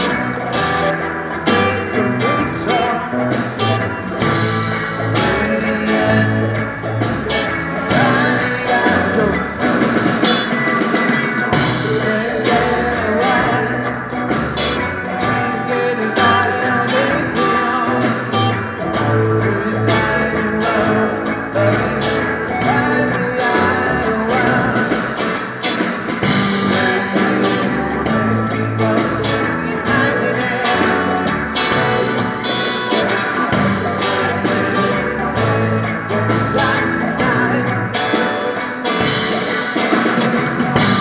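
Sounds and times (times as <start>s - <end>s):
drum kit: 0.0s - 41.0s
electric bass: 0.0s - 41.0s
electric guitars: 0.0s - 41.0s
man singing: 0.0s - 41.0s.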